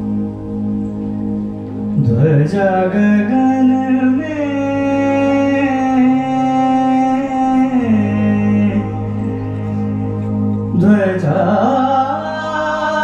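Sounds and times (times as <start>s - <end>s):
harmonium drone: 0.0s - 13.0s
man singing a long note: 2.0s - 13.0s.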